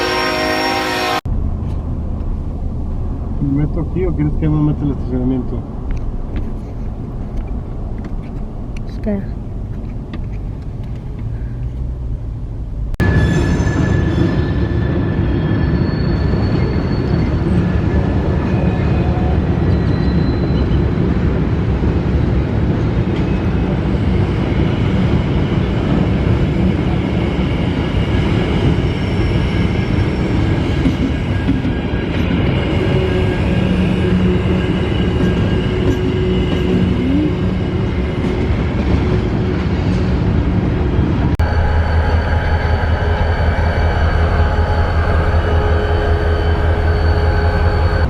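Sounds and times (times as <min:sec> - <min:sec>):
train wheels rumbling on rail: 0:01.2 - 0:48.0.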